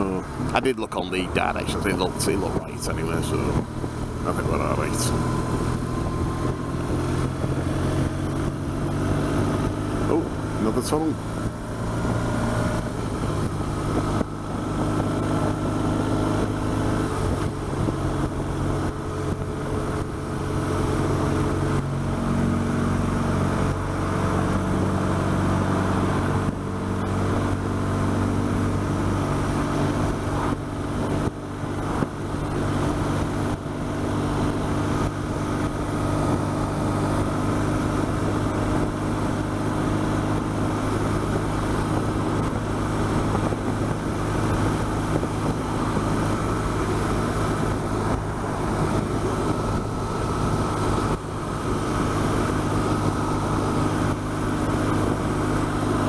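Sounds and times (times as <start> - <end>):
motorcycle engine droning: 0.0 - 56.0
wind and road noise: 0.0 - 56.0.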